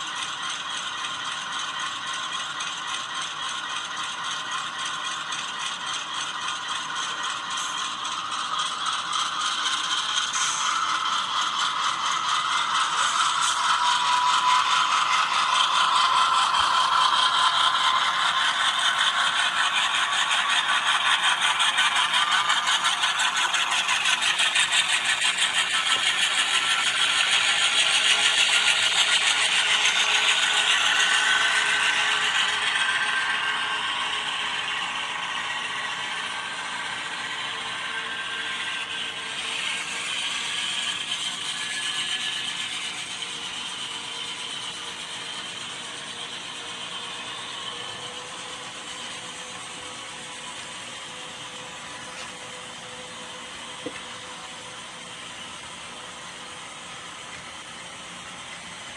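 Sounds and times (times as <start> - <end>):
model train rattling on track: 0.0 - 58.9.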